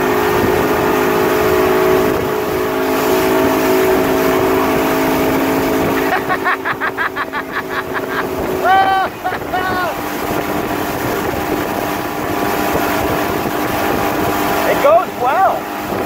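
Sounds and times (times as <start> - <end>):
motorboat engine running: 0.0 - 16.0
water rushing in wake: 0.0 - 16.0.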